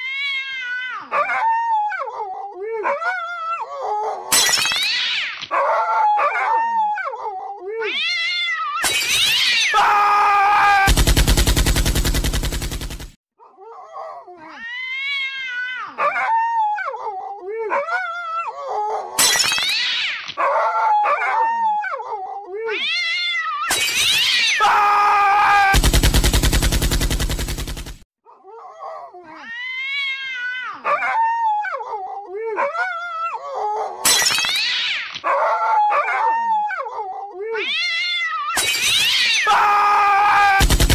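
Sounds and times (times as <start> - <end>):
animal yowls: 0.0 - 10.9, 13.4 - 25.8, 28.3 - 40.7.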